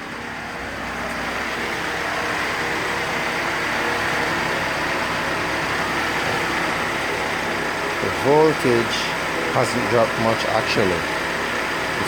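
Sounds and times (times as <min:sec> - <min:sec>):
car engine idling: 0:00.0 - 0:12.0
electric cooling fans running: 0:00.0 - 0:12.0.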